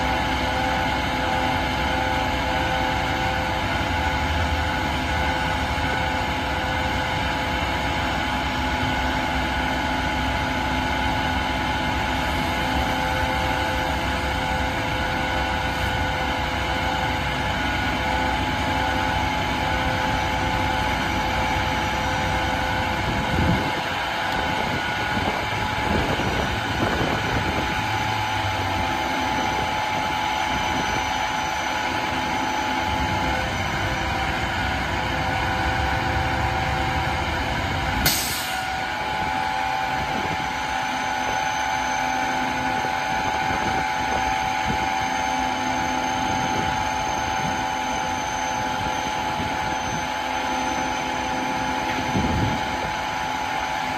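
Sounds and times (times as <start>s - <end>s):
diesel engine running: 0.0s - 53.9s
hydraulic whine: 0.0s - 53.9s.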